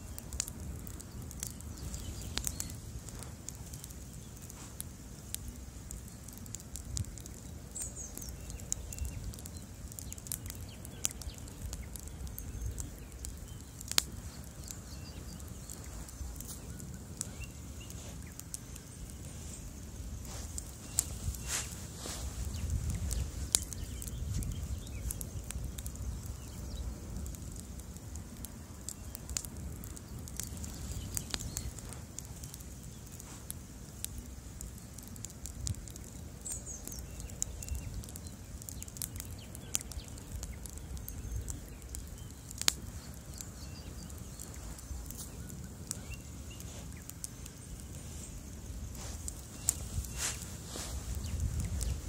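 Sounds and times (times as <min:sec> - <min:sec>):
bonfire crackling: 0:00.0 - 0:52.0.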